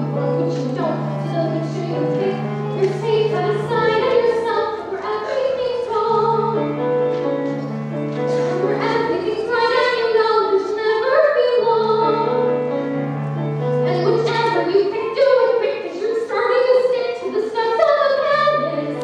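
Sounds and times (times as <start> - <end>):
woman singing with vibrato: 0.0 - 6.6, 8.5 - 12.4, 13.8 - 19.0
instrumental accompaniment: 0.0 - 19.0.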